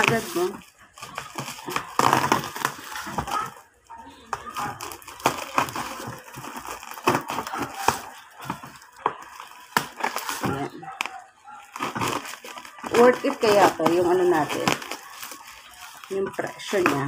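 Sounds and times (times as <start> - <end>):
bubble wrap crinkling: 0.0 - 17.0
scissors snipping bubble wrap: 0.0 - 17.0.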